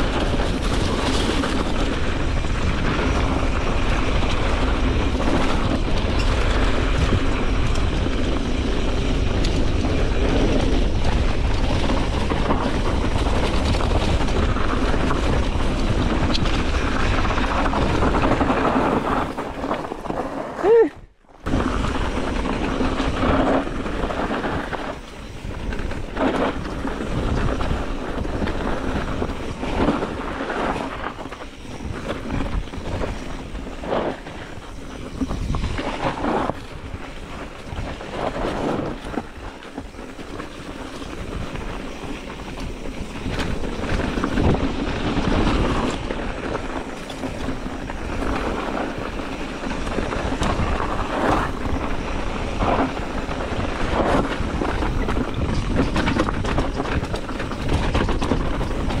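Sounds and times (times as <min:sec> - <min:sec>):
mountain bike rumble and rattle: 0:00.0 - 0:59.0
wind buffeting microphone: 0:00.0 - 0:59.0.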